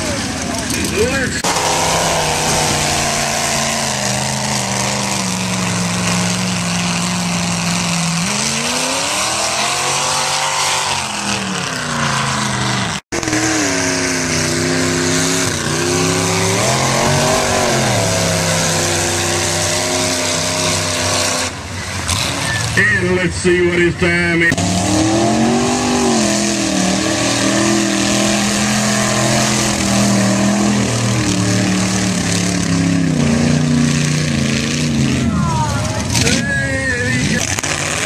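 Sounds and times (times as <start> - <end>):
truck engines revving: 0.0 - 38.0.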